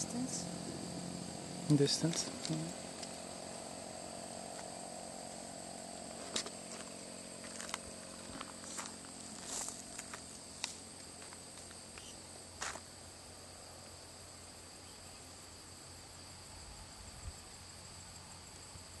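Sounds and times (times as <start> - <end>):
insects singing: 0.0 - 19.0.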